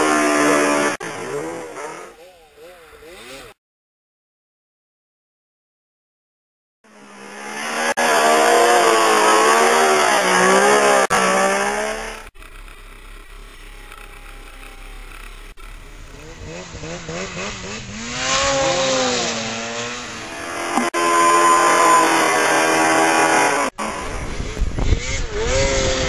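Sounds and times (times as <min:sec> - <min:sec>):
snowmobile engines revving: 0:00.0 - 0:03.6, 0:06.9 - 0:26.0.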